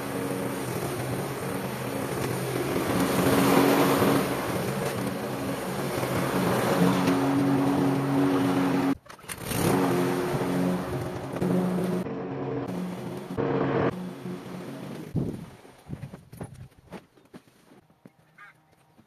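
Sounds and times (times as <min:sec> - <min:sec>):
lawnmower running: 0:00.0 - 0:15.7.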